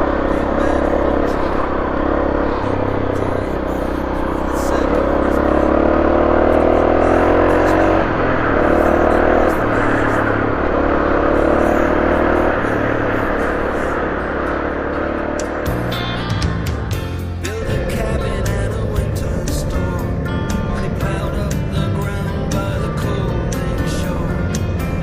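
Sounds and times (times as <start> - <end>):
gear change: 0.0 - 25.0
motorcycle engine revving: 0.0 - 25.0.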